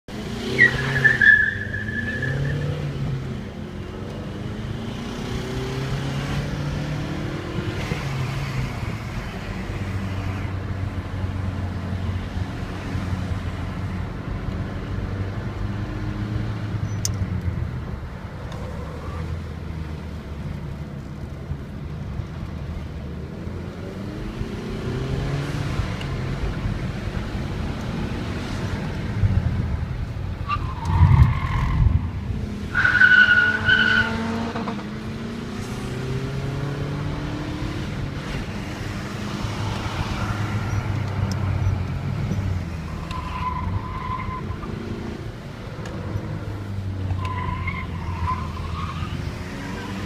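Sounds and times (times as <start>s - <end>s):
diesel car accelerating: 0.1s - 50.0s.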